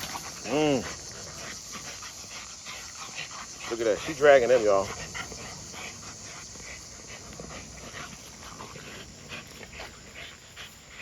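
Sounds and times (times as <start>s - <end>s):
dogs scuffling and breathing: 0.0s - 11.0s.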